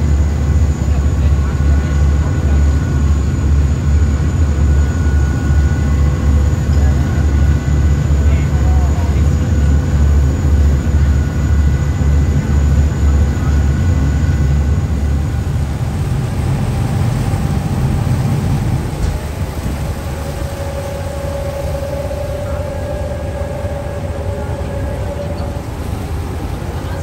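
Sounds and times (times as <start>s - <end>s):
boat engines rumbling: 0.0s - 27.0s.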